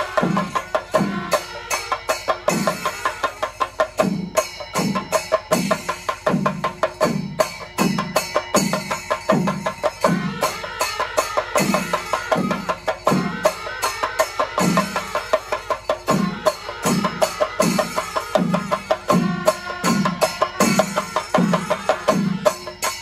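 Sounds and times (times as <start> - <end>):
cymbals ringing: 0.0 - 23.0
fast dense drumming: 0.0 - 23.0.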